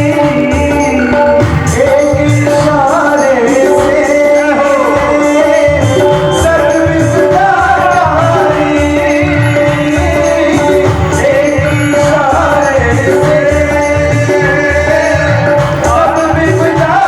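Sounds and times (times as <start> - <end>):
jingling percussion: 0.0 - 17.0
person singing devotional song: 0.0 - 17.0.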